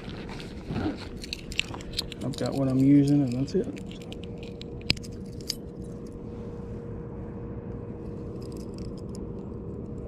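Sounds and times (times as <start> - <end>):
constant hum: 0.0 - 10.0
low background rumble: 0.0 - 10.0.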